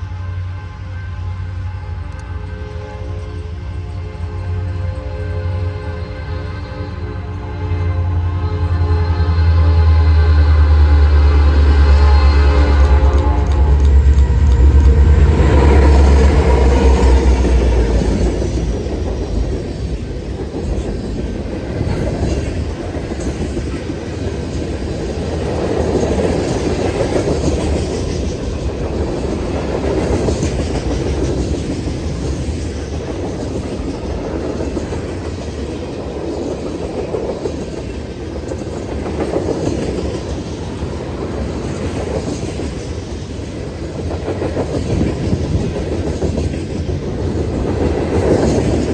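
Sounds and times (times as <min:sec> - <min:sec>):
train wheels clickety-clack: 0:09.4 - 0:48.9.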